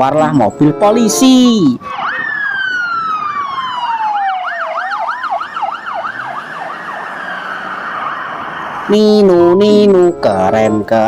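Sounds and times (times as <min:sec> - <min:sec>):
police siren wailing and warbling: 0:00.6 - 0:11.0.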